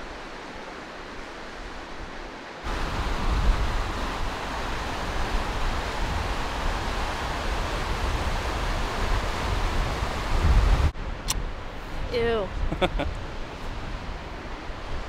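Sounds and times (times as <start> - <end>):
river rushing through rapids: 0.0 - 12.4
wind rumbling on microphone: 0.0 - 15.0.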